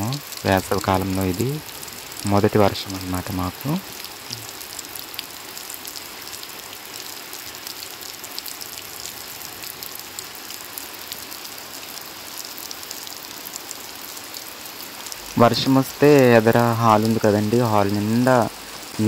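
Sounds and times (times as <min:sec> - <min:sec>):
heavy rain on puddles: 0:00.0 - 0:19.0.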